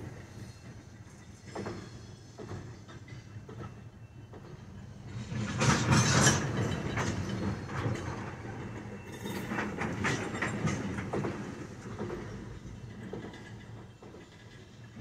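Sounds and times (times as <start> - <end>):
train low rumble: 0.0 - 15.0
train wheels clacking on rail joints: 0.0 - 15.0.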